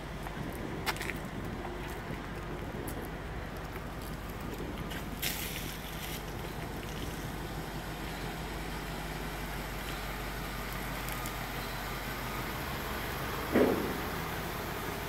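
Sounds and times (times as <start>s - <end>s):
fire truck engine idling: 0.0s - 15.0s.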